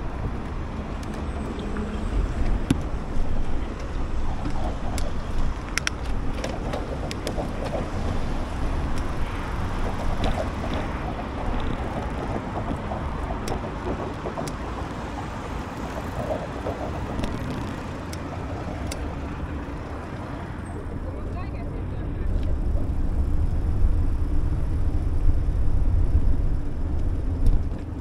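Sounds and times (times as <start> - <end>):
bicycle tyre and road noise: 0.0 - 28.0
wind rumbling on microphone: 0.0 - 28.0.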